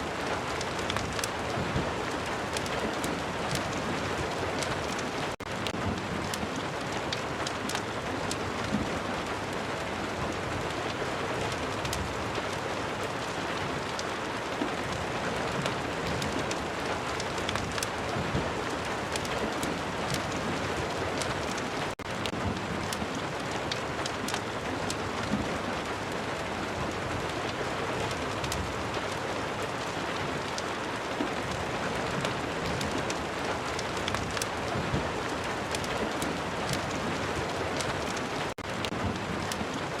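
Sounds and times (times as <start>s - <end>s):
fireplace fire crackling: 0.0s - 40.0s
steady rain: 0.0s - 40.0s.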